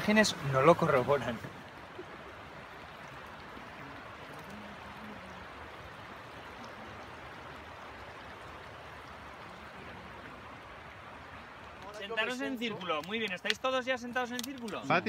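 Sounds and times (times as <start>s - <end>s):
river rushing over gravel: 0.0s - 15.0s.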